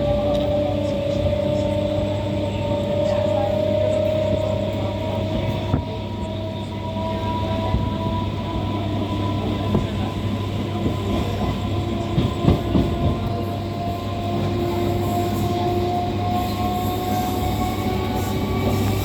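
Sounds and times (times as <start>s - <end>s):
train rumbling along track: 0.0s - 19.0s.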